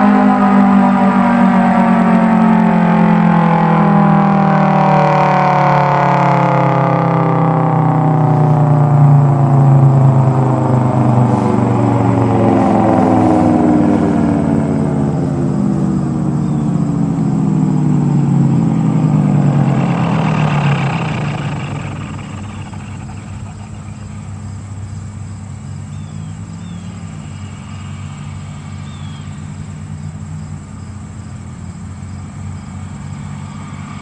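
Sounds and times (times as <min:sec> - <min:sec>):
siren winding down: 0:00.0 - 0:30.0
steady low hum: 0:00.0 - 0:34.0.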